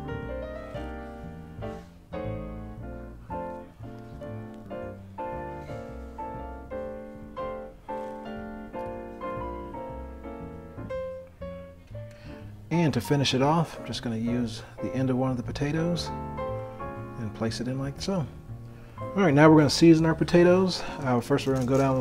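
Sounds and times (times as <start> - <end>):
instrumental piano music: 0.0 - 22.0.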